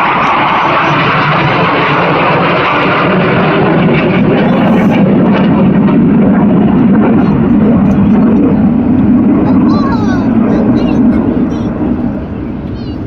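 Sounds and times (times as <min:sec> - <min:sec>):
aircraft engine flying past: 0:00.0 - 0:13.0.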